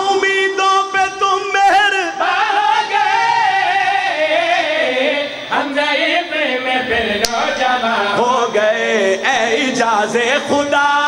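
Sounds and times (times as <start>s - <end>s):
men singing unaccompanied: 0.0s - 11.0s.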